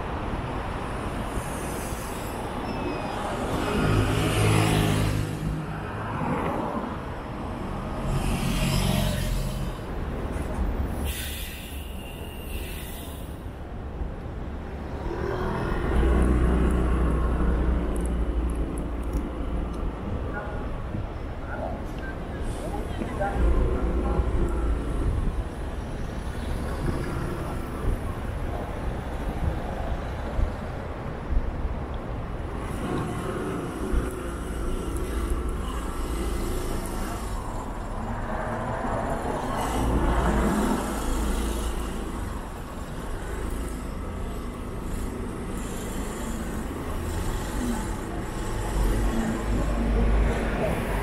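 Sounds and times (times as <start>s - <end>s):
street traffic rumble: 0.0s - 51.0s.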